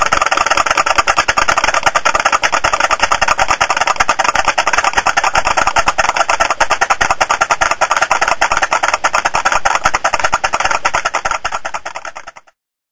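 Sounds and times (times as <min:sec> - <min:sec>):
fast sharp clicks: 0:00.0 - 0:12.6.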